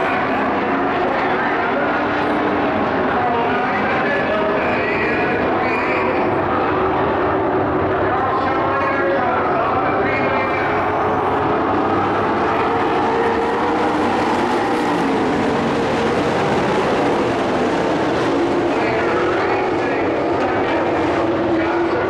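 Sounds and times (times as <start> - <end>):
race truck engines droning: 0.0 - 22.0.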